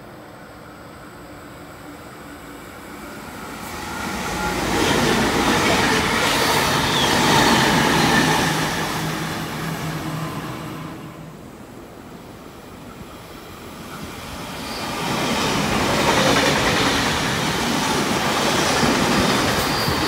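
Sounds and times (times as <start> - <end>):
electric train passing at speed: 0.0 - 20.0.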